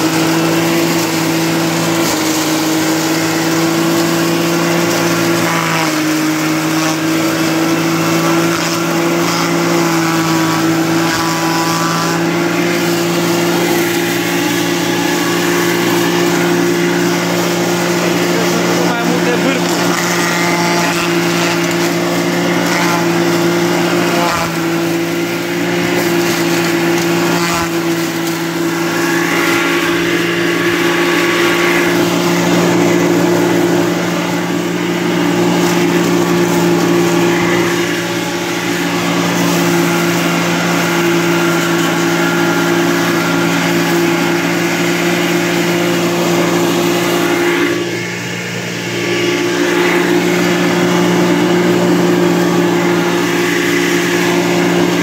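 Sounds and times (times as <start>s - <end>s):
forage chopper motor hum: 0.0s - 55.0s.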